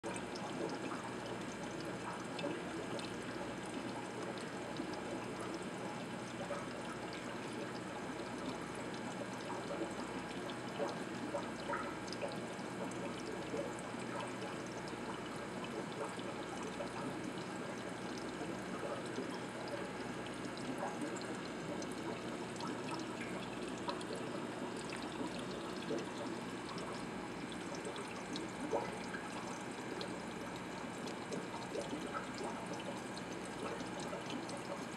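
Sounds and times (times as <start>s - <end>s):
aquarium water trickling and bubbling: 0.0s - 34.9s.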